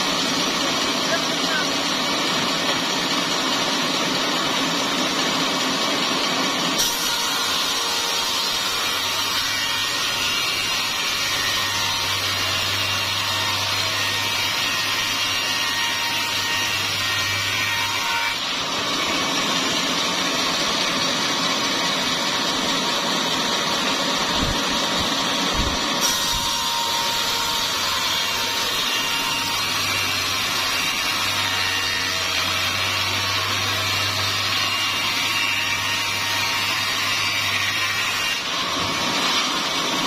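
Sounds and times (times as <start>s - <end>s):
sawmill saw cutting log: 0.0s - 40.0s.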